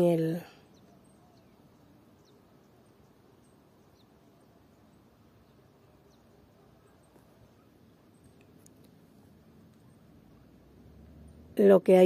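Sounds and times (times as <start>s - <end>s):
faint distant bird chirps: 0.0s - 12.0s.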